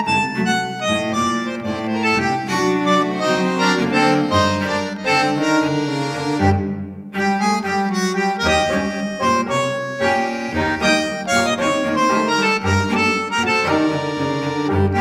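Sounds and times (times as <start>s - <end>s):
sustained melody notes: 0.0s - 15.0s.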